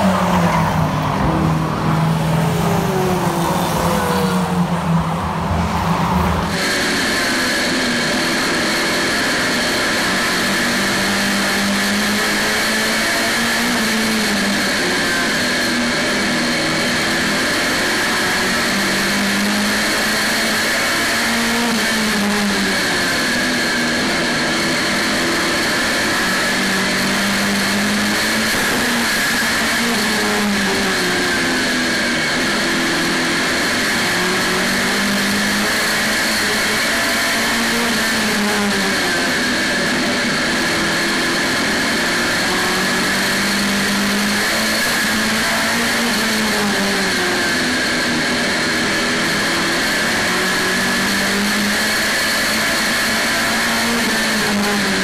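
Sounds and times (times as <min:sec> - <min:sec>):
steady high whine: 0:00.0 - 0:21.1, 0:21.7 - 0:55.0
race car engine running hard: 0:00.0 - 0:55.0.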